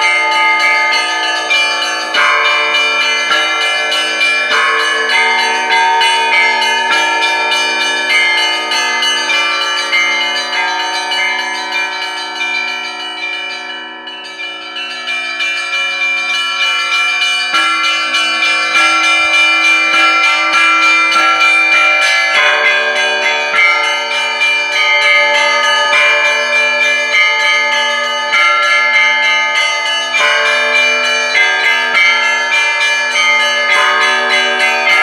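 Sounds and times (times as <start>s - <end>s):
hum of larger bells: 0.0s - 35.0s
small church bells struck quickly: 0.0s - 35.0s.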